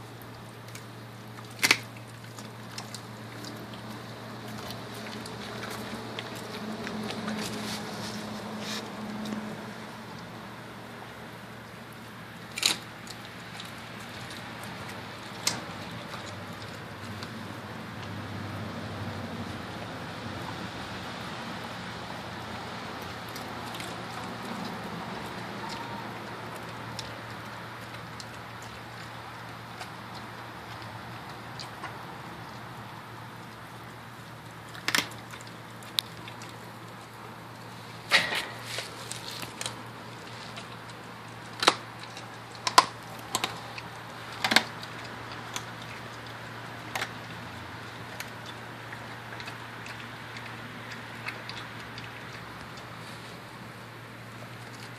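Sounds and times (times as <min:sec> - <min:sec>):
dog chewing bone: 0:00.0 - 0:54.9
low background hum: 0:00.0 - 0:54.9.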